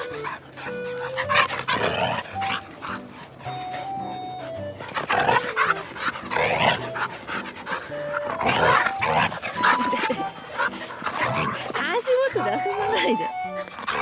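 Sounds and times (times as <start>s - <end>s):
background music with held notes: 0.0s - 14.0s
dogs vocalizing and panting: 0.0s - 14.0s
dogs whining: 0.0s - 14.0s.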